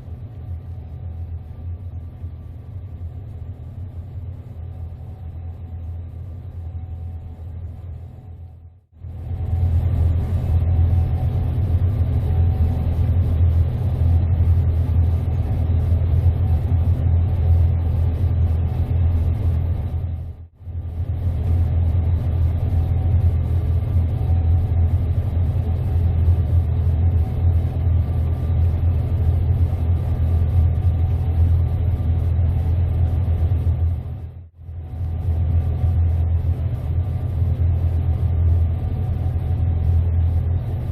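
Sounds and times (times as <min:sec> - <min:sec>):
combine harvester droning: 0:00.0 - 0:40.9.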